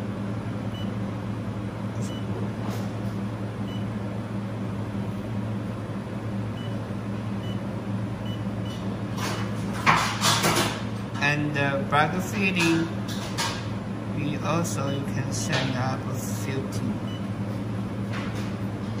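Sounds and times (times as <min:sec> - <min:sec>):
welding machine electrical hum: 0:00.0 - 0:19.0.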